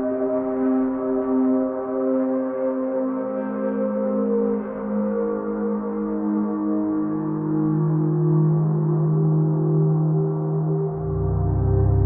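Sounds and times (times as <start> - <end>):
ambient droning music: 0.0 - 12.0.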